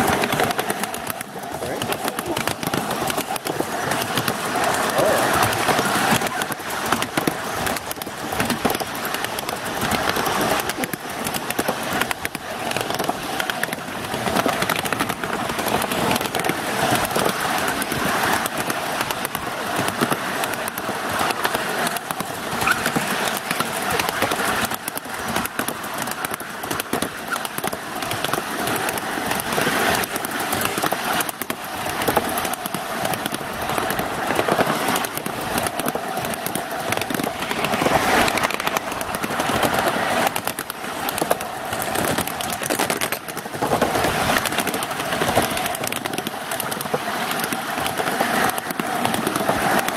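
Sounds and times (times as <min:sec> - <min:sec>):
railway cars rattling on track: 0:00.0 - 0:49.9.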